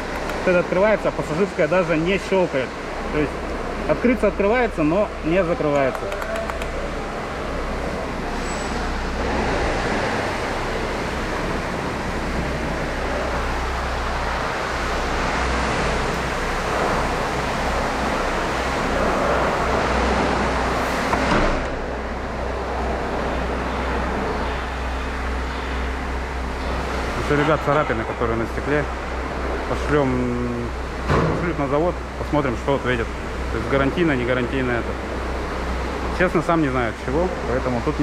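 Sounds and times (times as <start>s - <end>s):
vehicle rumble and hiss: 0.0s - 38.0s.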